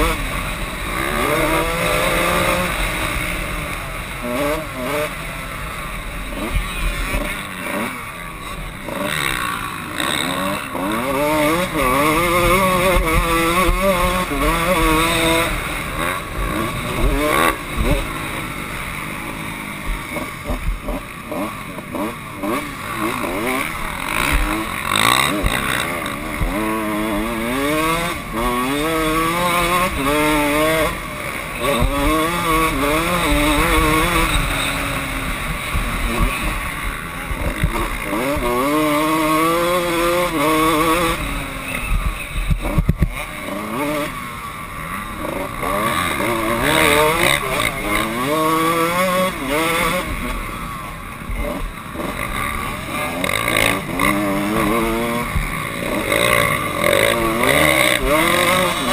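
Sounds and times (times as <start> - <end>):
two-stroke motorcycle engine revving: 0.0 - 58.9.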